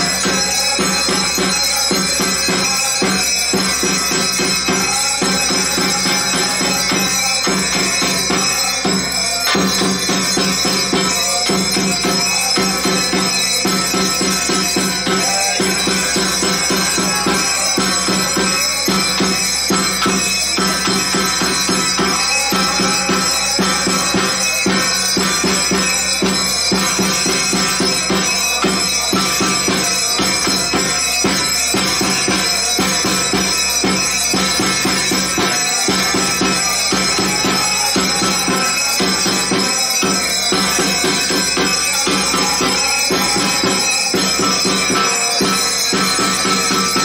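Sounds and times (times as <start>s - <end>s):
fast even drumbeat: 0.0s - 47.0s
high ringing tones: 0.0s - 47.0s.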